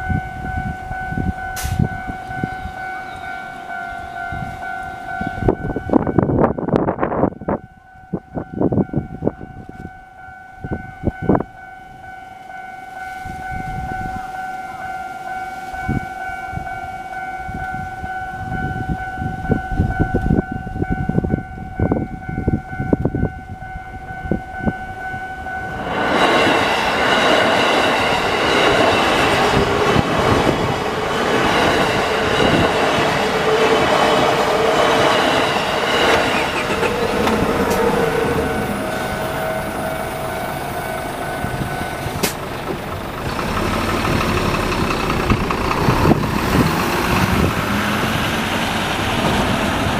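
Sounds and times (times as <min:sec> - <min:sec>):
train rumbling and clattering: 0:00.0 - 0:12.6, 0:15.8 - 0:49.9
level-crossing warning bell: 0:00.0 - 0:49.9.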